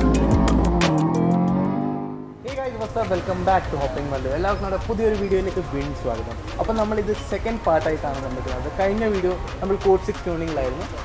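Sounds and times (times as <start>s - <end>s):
music with steady beat: 0.0s - 1.7s, 2.4s - 11.0s.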